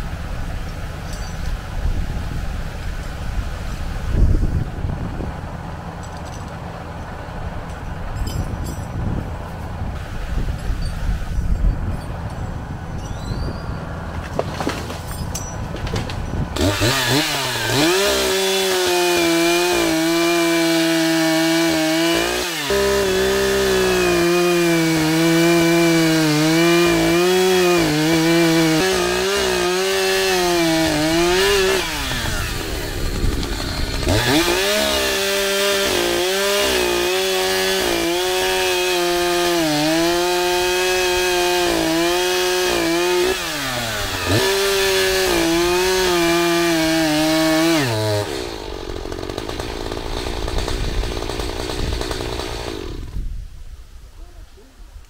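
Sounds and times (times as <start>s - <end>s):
chainsaw cutting tree trunk: 0.0s - 53.3s.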